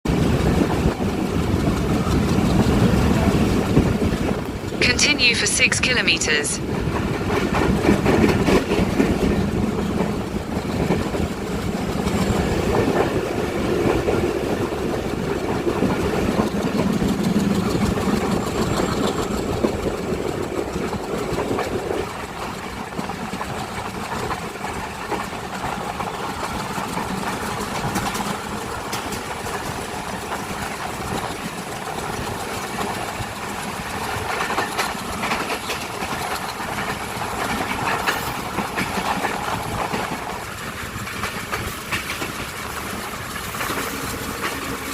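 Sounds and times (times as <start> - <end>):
train wheels rumbling on rails: 0.1 - 4.8, 6.6 - 44.9.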